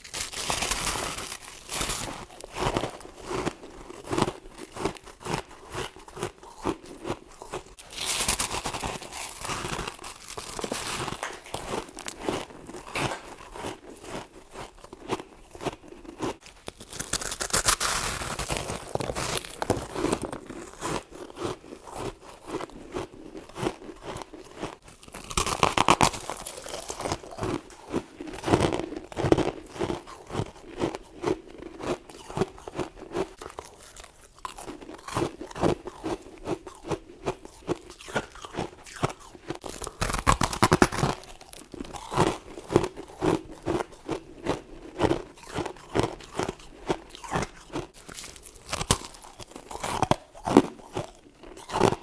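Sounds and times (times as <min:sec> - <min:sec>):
person chewing crunchy frost: 0:00.0 - 0:52.0.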